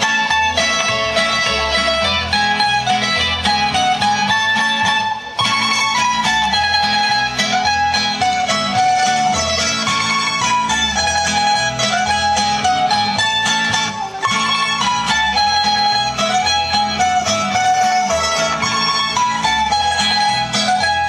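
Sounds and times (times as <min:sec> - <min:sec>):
folk dance music on plucked strings: 0:00.0 - 0:21.0.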